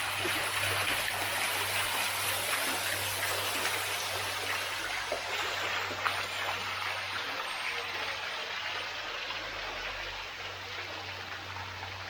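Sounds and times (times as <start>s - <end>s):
low steady hum: 0.0s - 12.0s
running water splashing: 0.0s - 12.0s.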